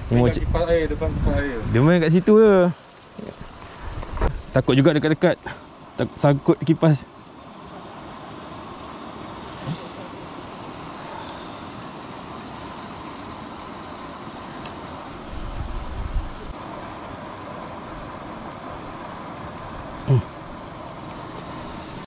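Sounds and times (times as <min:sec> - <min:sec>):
paddlewheel aerator churning water: 0:00.0 - 0:22.0.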